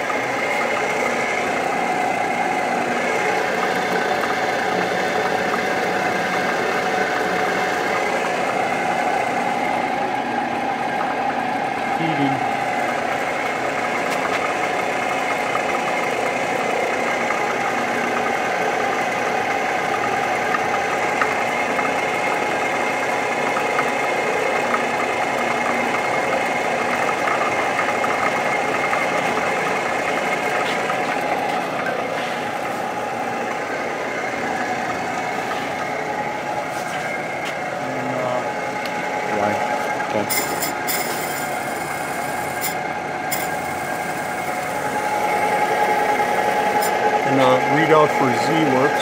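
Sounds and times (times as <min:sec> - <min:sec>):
milling machine hum and whine: 0:00.0 - 0:49.0.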